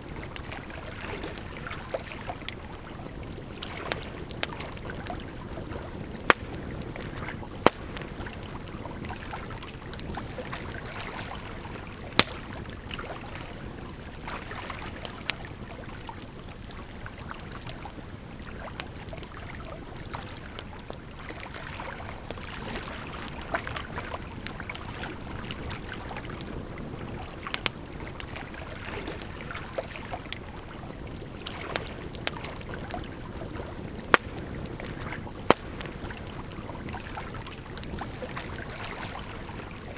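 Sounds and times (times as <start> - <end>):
firewood crackling and popping: 0.1 - 39.9.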